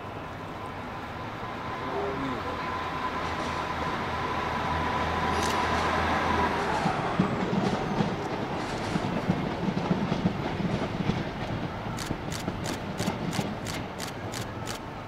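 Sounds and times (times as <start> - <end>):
train rumbling over tracks: 0.0 - 15.0.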